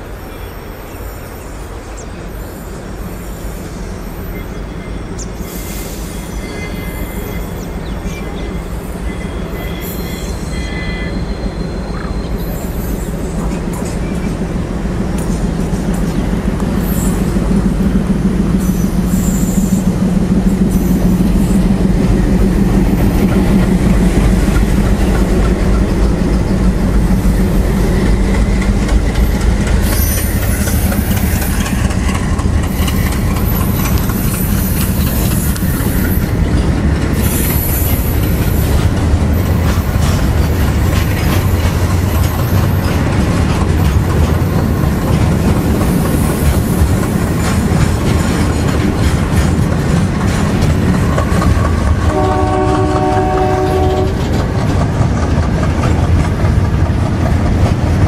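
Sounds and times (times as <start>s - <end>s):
train wheels rumbling on rails: 0.0s - 58.0s
clickety-clack over rail joints: 5.0s - 58.0s.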